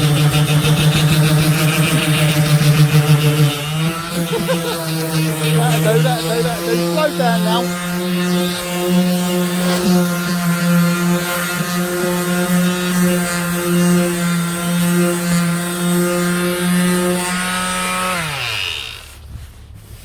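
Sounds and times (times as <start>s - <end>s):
power tool motor running: 0.0s - 19.3s.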